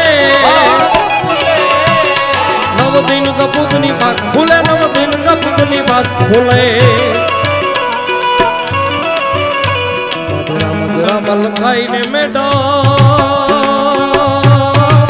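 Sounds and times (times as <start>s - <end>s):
man singing: 0.0s - 8.2s, 10.5s - 15.0s
harmonium chords: 0.0s - 15.0s
tabla beat: 0.0s - 15.0s.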